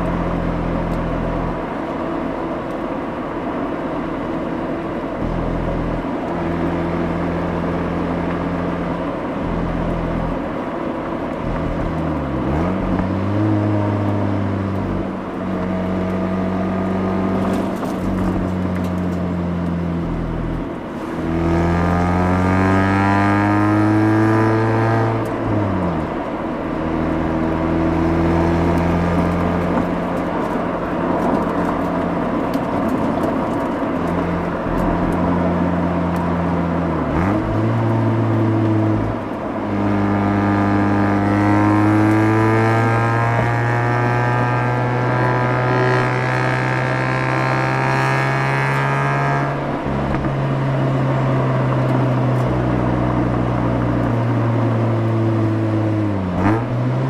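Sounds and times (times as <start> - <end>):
rotary engine exhaust while driving: 0.0 - 57.0.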